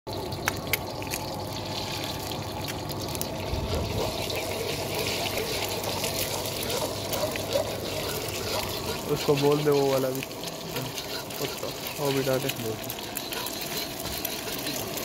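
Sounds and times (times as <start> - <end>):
hot oil sizzling in a wok: 0.1 - 15.0
metal ladle in a pan: 0.2 - 15.0.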